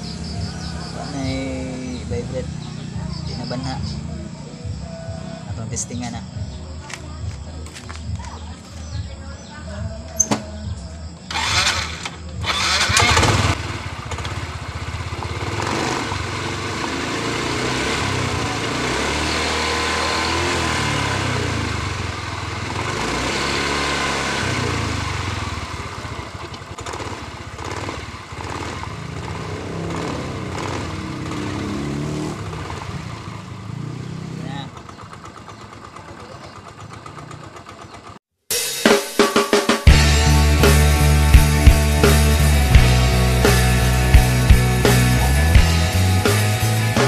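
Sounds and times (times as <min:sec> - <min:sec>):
scooter engine starting and revving: 0:00.0 - 0:06.3, 0:10.2 - 0:38.3, 0:39.8 - 0:47.0.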